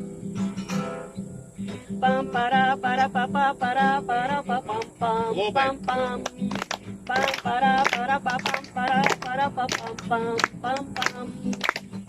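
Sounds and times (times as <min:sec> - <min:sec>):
acoustic guitar: 0:00.0 - 0:12.0
woman singing wordless refrain: 0:01.6 - 0:12.0.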